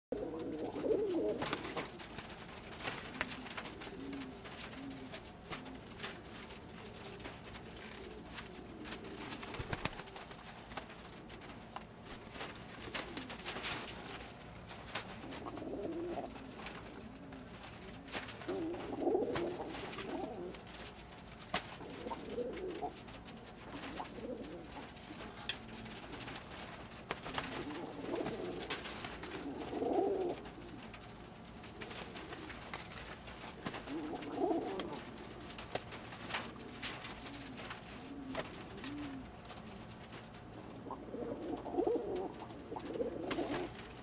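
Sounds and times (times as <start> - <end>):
pigeons cooing: 0.1 - 44.0
wing flaps: 0.2 - 44.0.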